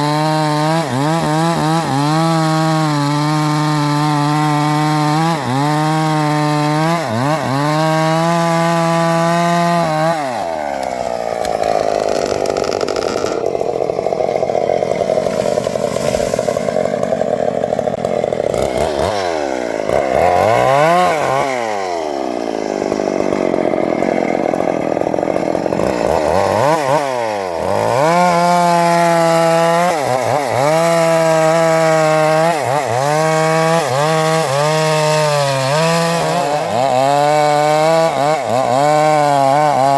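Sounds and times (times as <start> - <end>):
chainsaw idling and cutting wood: 0.0 - 39.9.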